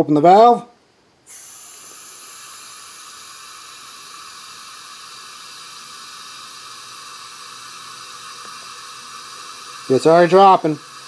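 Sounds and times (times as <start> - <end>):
compressed air hissing: 1.2 - 11.0.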